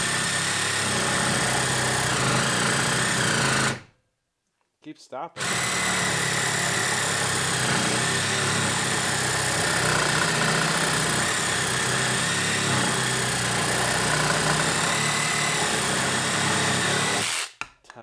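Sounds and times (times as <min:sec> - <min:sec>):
reciprocating saw cutting wood: 0:00.0 - 0:03.8, 0:05.4 - 0:17.6.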